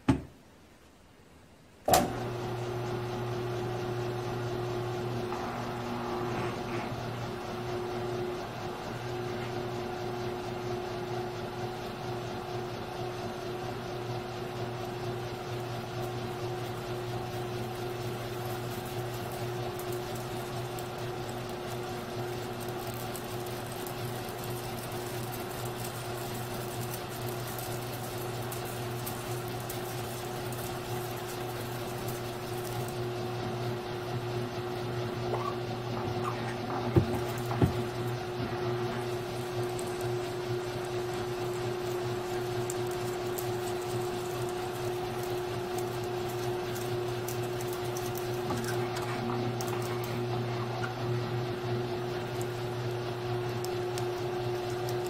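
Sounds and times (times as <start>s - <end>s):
drill press humming: 1.9s - 55.0s.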